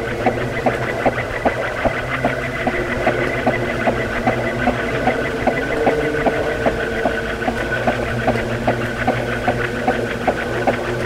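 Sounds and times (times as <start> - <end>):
ceiling fan motor hum: 0.0 - 11.0
ceiling fan ticking: 0.0 - 11.0.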